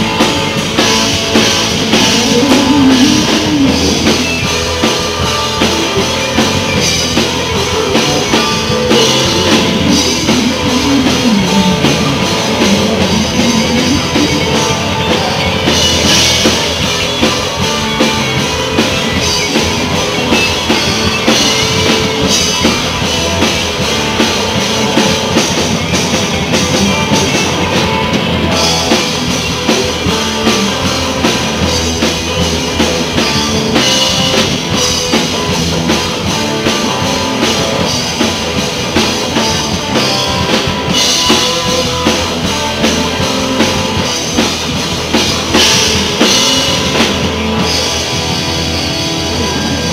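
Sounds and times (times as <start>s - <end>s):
blues-rock band playing: 0.0s - 49.9s
electric guitar bending notes: 0.0s - 49.9s.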